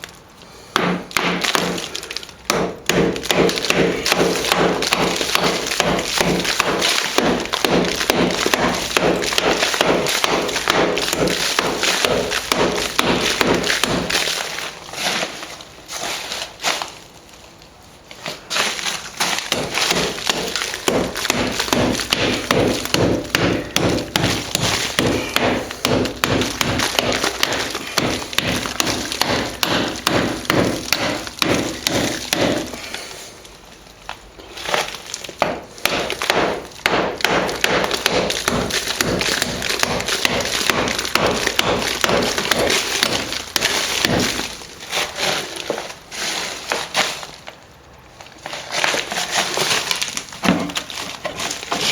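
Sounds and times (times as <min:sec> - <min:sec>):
hand tool chipping plaster: 0:00.7 - 0:17.0, 0:18.2 - 0:33.5, 0:34.4 - 0:47.5, 0:48.3 - 0:51.9
crumbling debris: 0:01.0 - 0:51.9.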